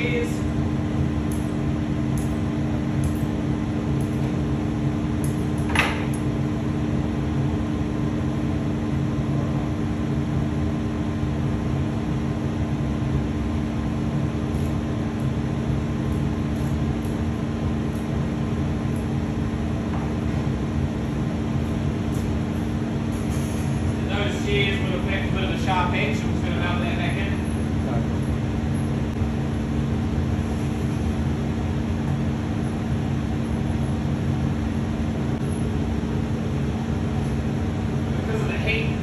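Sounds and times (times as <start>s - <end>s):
machinery hum: 0.0s - 39.0s.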